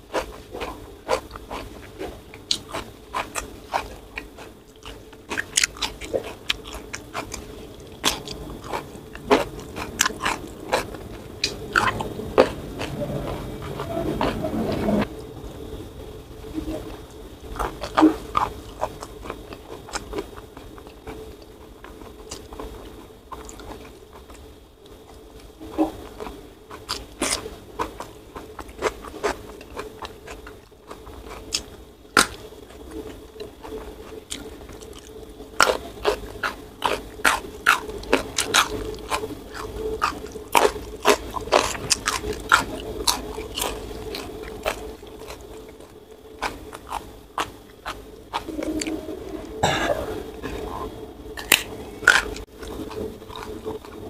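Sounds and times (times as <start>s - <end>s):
person chewing food: 0.0s - 15.7s, 16.5s - 54.0s
mouth clicks and crunches: 0.1s - 15.1s, 16.8s - 54.0s.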